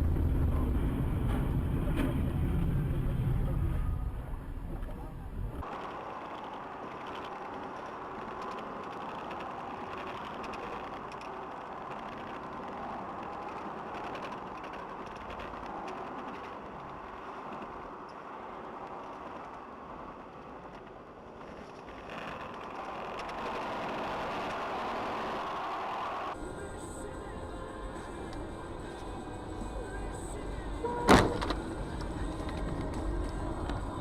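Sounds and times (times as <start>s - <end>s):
car driving noise: 0.0s - 34.0s.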